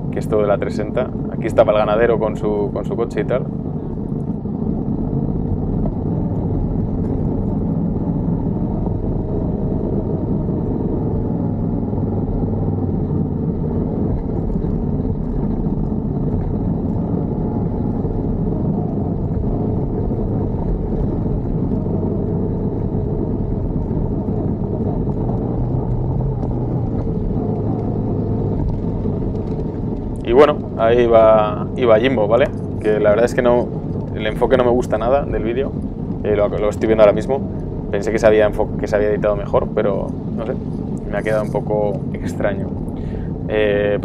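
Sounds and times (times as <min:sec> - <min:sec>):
motorcycle engine low rumble: 0:00.0 - 0:44.0.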